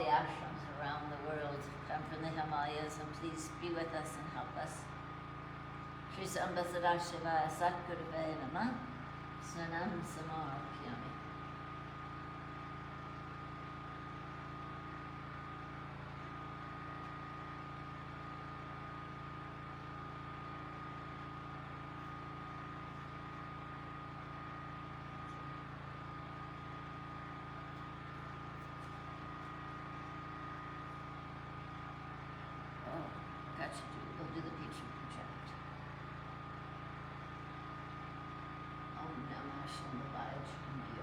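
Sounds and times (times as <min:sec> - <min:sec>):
generator engine humming: 0:00.0 - 0:41.0.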